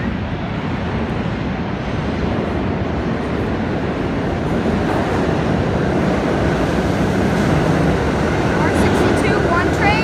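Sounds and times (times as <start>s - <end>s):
subway train rumbling: 0.0s - 10.0s.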